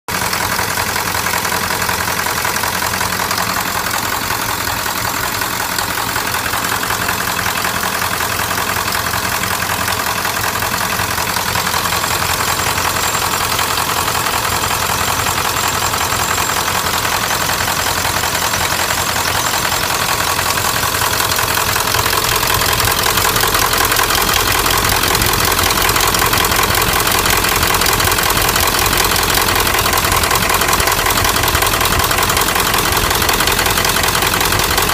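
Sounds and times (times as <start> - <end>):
diesel engine idling with knocking: 0.1 - 34.9.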